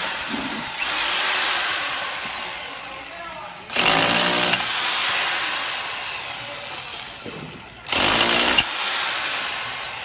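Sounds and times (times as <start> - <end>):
hammer drill into masonry: 0.0 - 10.0.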